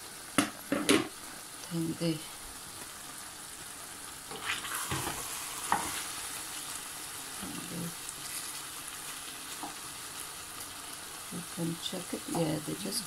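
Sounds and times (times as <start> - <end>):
food hissing in a pot: 0.0 - 13.0.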